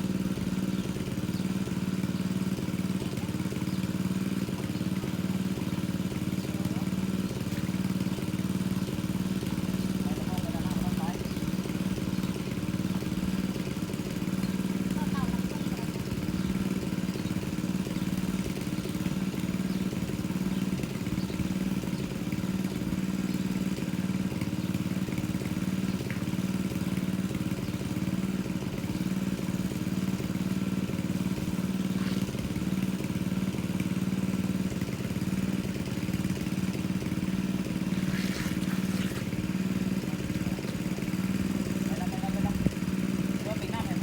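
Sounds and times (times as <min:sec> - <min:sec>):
engine-driven water pump running: 0:00.0 - 0:44.0.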